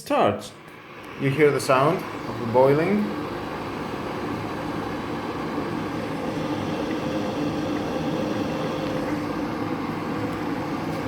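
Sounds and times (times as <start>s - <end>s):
electric kettle heating water: 0.0s - 11.0s.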